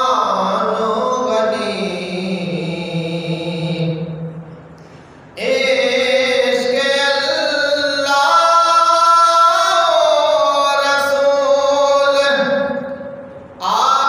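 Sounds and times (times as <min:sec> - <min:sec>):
man singing unaccompanied: 0:00.0 - 0:04.2, 0:05.4 - 0:13.0, 0:13.6 - 0:14.0.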